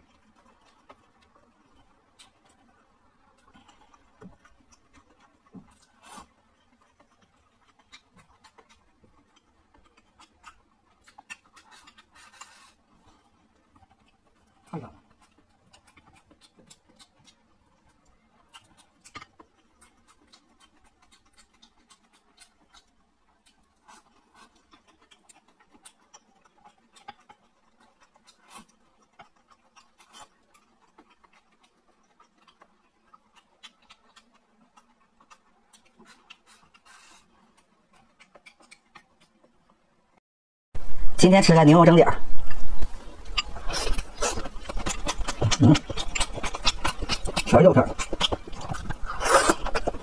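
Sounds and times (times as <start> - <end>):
chewing: 0.0 - 39.8, 42.3 - 50.0.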